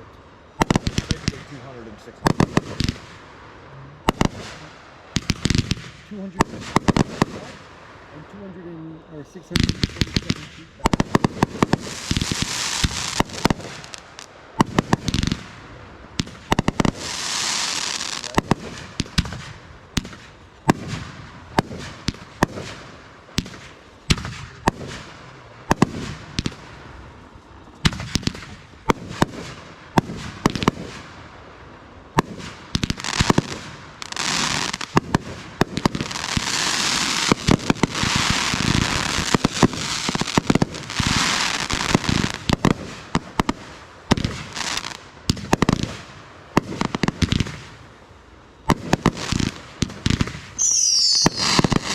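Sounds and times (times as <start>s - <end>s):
firework bangs: 0.0s - 48.0s, 48.6s - 51.9s
fireworks crackling: 0.0s - 51.9s.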